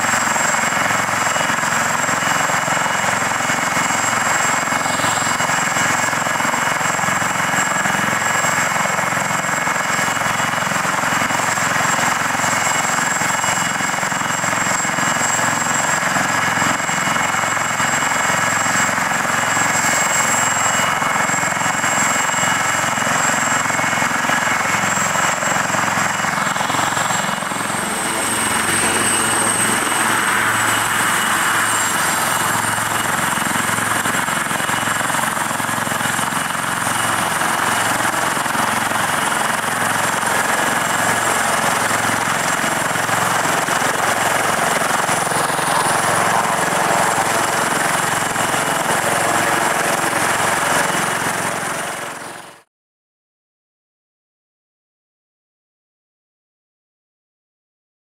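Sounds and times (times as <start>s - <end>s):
helicopter rotor beating: 0.0s - 52.7s
helicopter turbine whine: 0.0s - 52.7s.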